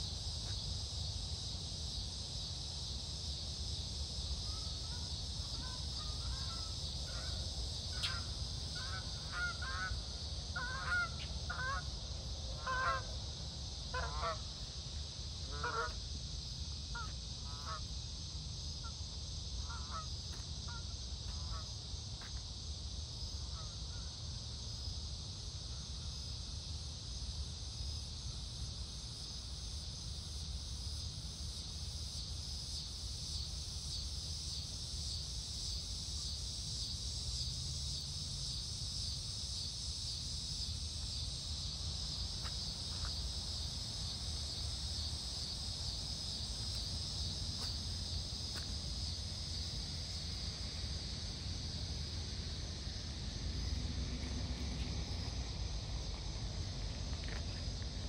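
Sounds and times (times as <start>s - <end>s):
high insect chorus: 0.0s - 58.0s.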